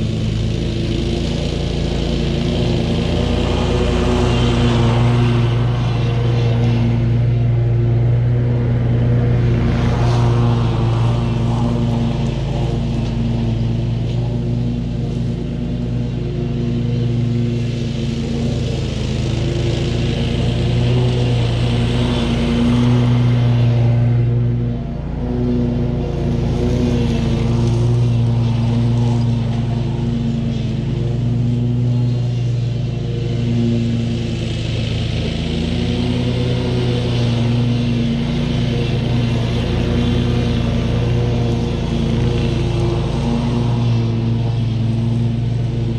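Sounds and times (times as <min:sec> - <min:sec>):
mower engine running: 0:00.0 - 0:45.9.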